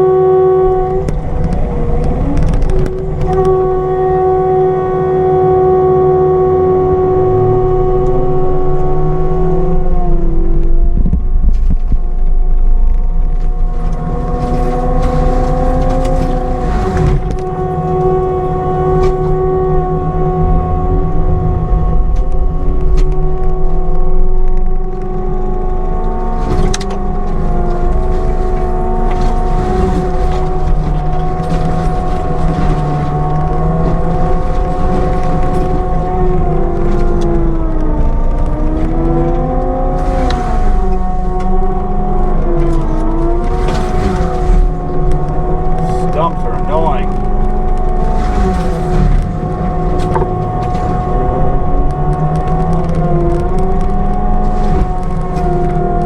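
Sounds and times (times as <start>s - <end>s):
engine rumble: 0.0s - 56.0s
forestry mulcher whine: 0.0s - 56.0s.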